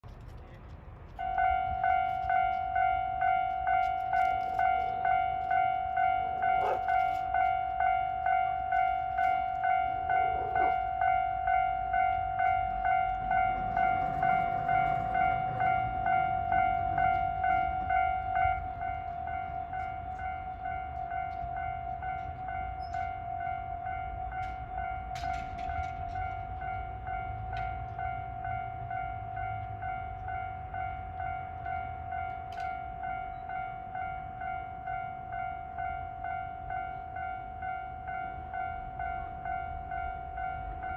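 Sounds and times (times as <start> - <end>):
electric train rumbling: 0.0 - 40.9
level crossing bell dinging: 1.2 - 40.9.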